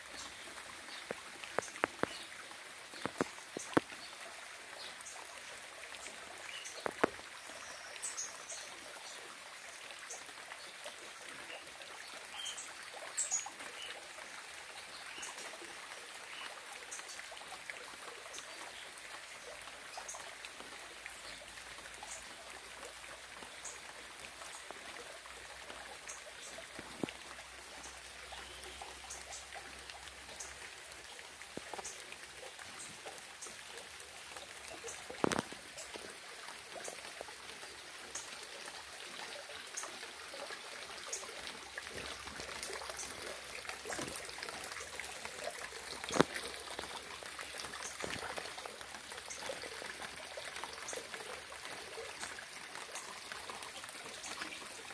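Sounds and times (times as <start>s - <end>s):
raindrops striking close by: 0.0s - 10.8s, 11.4s - 40.3s, 40.9s - 54.9s
light rain: 0.0s - 54.9s
water trickling: 0.0s - 54.9s.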